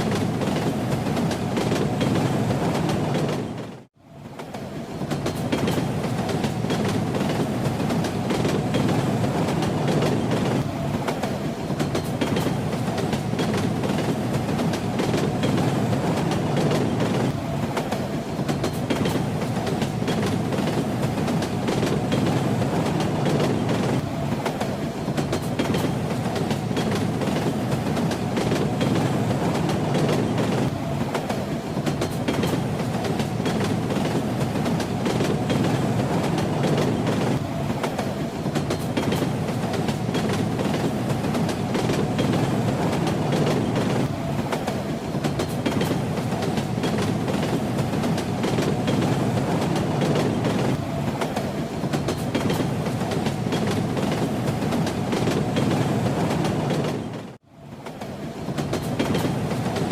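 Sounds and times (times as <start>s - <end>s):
railway carriage rumbling: 0.0s - 59.9s.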